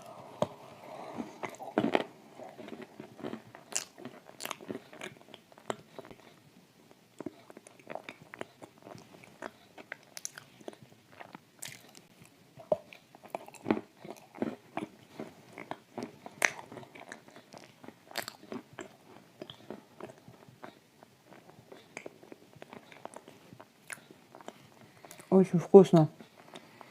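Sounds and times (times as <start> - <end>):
chewing crunchy cookies: 0.0 - 25.5, 26.2 - 26.9.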